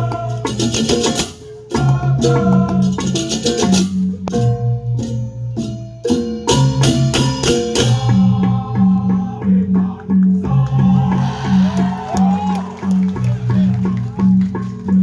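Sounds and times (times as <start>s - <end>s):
drums: 0.0s - 15.0s.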